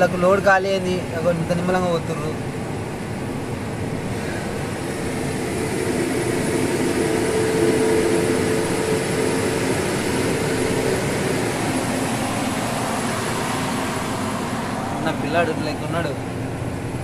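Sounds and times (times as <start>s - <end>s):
lorry engine drone: 2.0s - 17.0s
deep engine hum: 2.3s - 17.0s.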